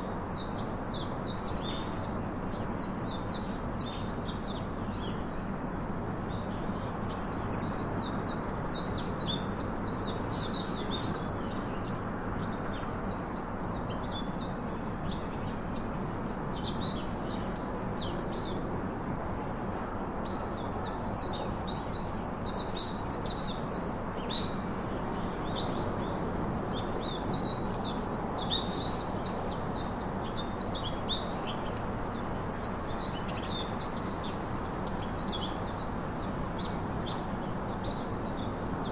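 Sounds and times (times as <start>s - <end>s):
steady background hiss: 0.0s - 38.9s
small birds chirping: 6.2s - 19.0s, 20.3s - 38.9s.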